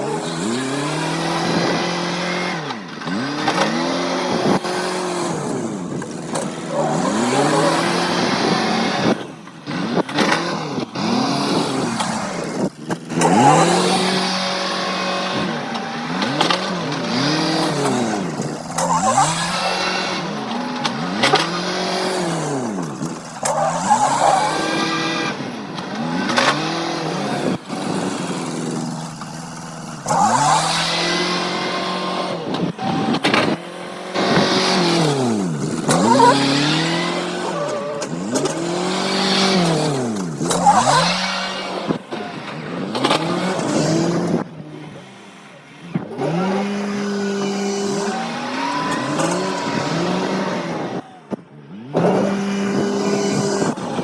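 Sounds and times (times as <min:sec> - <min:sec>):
farm machine engine revving: 0:00.0 - 0:54.0.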